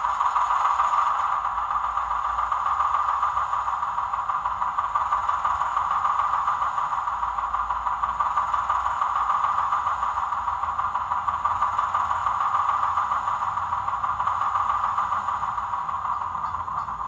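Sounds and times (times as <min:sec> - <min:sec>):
digital diesel engine idling: 0:00.0 - 0:17.0.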